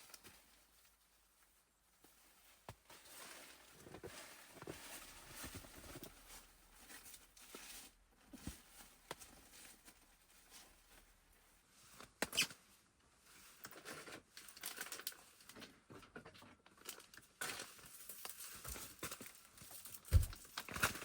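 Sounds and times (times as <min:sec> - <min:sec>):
rustling and crinkling handling: 0:00.0 - 0:21.0.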